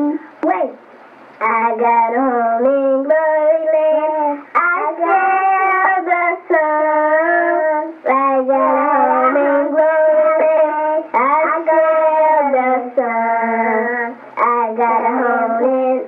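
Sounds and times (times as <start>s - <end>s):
high voice singing unaccompanied: 0.0s - 0.8s, 1.4s - 16.0s.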